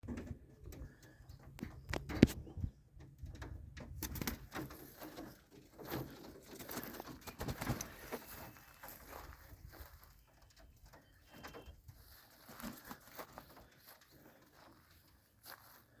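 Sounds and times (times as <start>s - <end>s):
wings fluttering and rustling: 0.1s - 16.0s.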